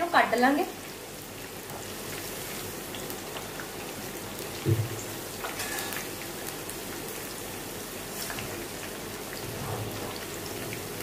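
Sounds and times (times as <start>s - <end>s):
batter deep-frying in hot oil: 0.0s - 11.0s.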